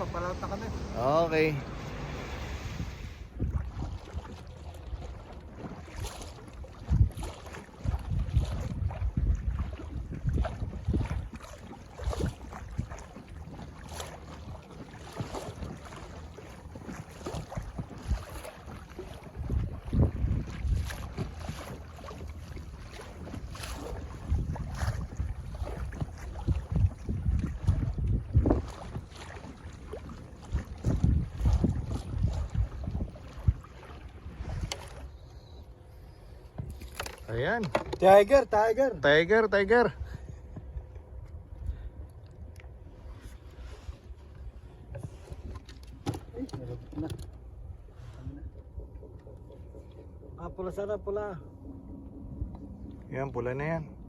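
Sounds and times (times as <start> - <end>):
wind buffeting microphone: 0.0 - 35.6, 39.2 - 54.0
water sloshing: 0.0 - 54.0.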